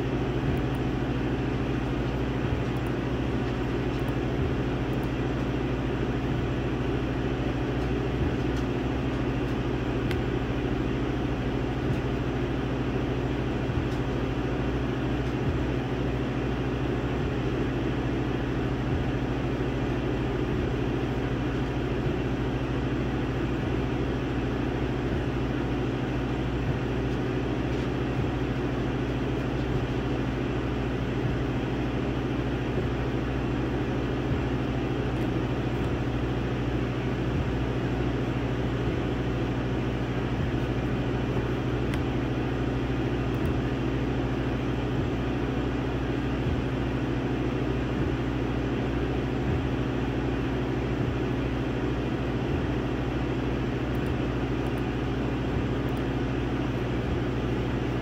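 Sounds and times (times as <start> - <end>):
laser engraver fan hum: 0.0 - 58.0.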